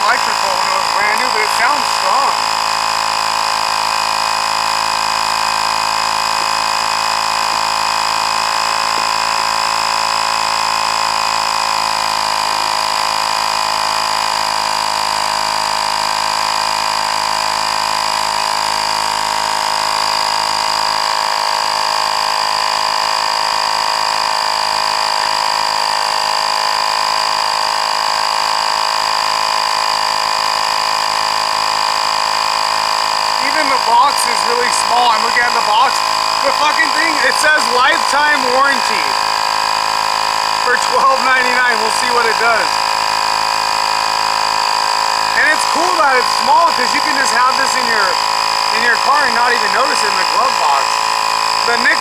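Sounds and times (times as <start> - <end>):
air compressor motor whine: 0.0 - 52.0.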